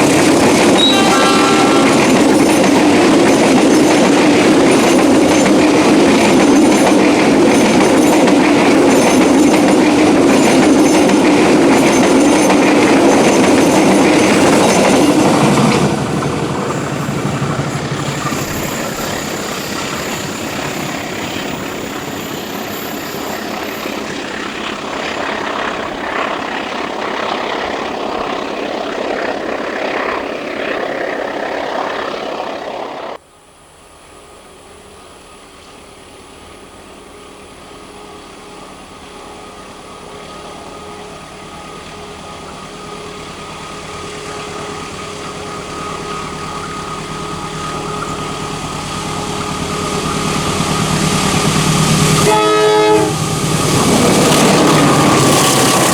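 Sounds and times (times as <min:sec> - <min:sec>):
train rushing past: 0:00.0 - 0:33.2, 0:34.2 - 0:55.9
diesel locomotive engine hum: 0:00.0 - 0:55.9.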